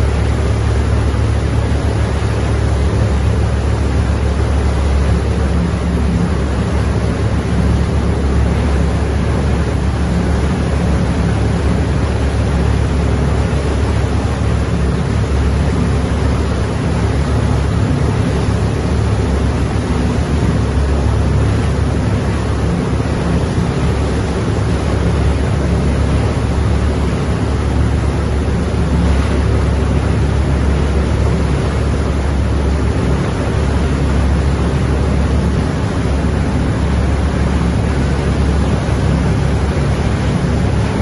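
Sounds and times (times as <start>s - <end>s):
outdoor rumble and hiss: 0.0s - 41.0s.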